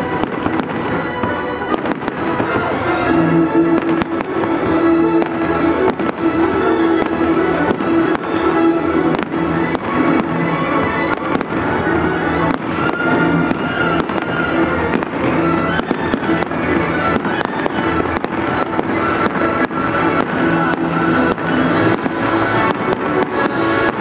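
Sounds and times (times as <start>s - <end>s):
fireworks bangs and crackles: 0.0s - 24.0s
loud music: 0.0s - 24.0s.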